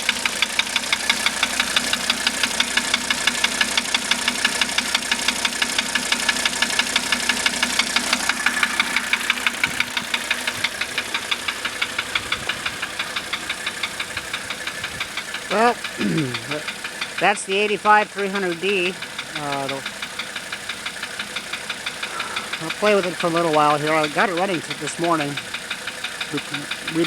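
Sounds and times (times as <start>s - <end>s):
diesel engine idling with knock: 0.0s - 27.0s.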